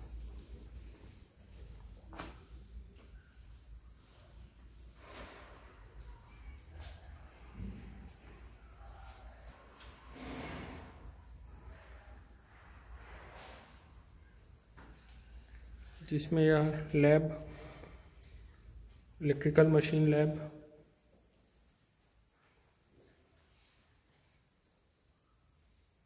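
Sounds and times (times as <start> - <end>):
insect chirring: 0.0 - 26.0.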